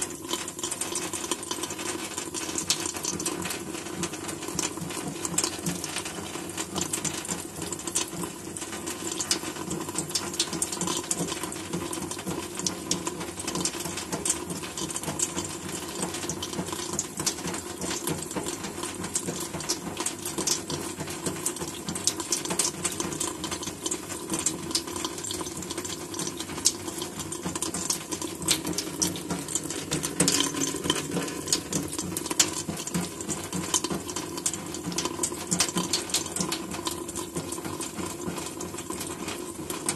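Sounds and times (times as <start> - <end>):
cat lapping water: 0.0 - 39.9
tap water trickling: 0.0 - 39.9.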